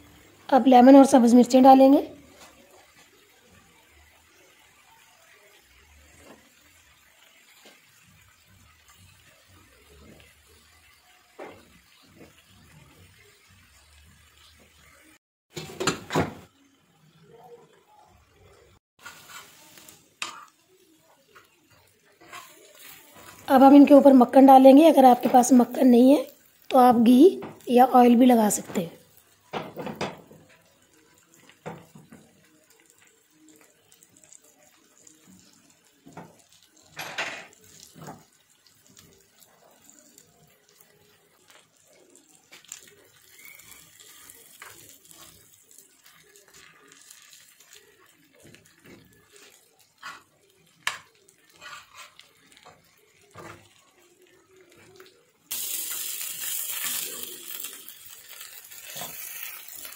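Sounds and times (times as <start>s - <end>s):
chicken sizzling on griddle: 0.0s - 59.9s.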